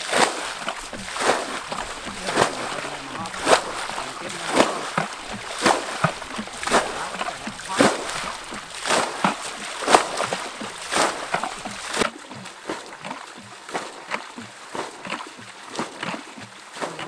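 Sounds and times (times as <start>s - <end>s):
bucket splashing muddy water: 0.0s - 17.0s.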